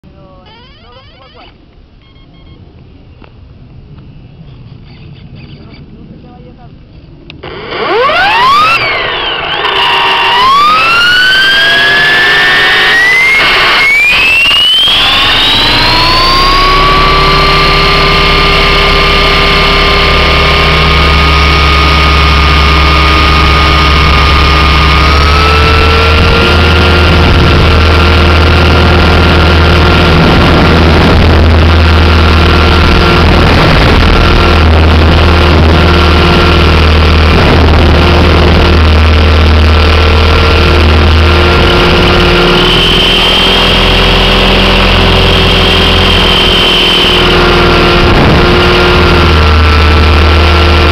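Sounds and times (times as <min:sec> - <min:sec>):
high tone: 0:00.4 - 0:02.7, 0:07.4 - 0:50.9
helicopter rotor drone: 0:00.5 - 0:50.9
motor and gear whine: 0:07.2 - 0:50.9.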